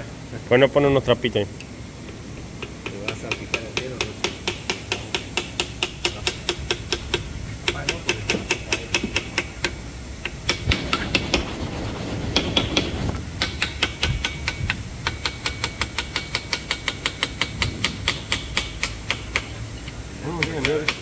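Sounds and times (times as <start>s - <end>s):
metal-on-metal tapping: 1.6s - 11.4s, 13.4s - 21.0s.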